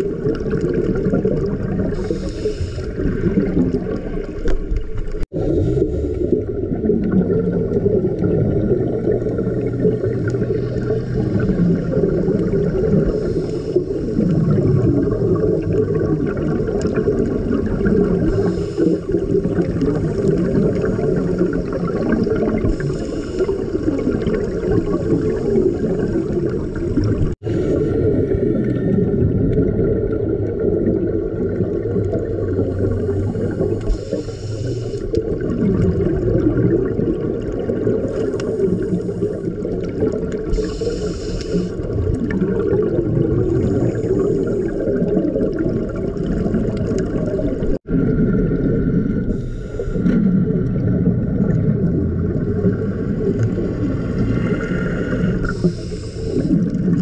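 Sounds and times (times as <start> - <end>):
low underwater rumble: 0.0 - 57.0
scuba regulator bubbling exhalations: 0.0 - 57.0.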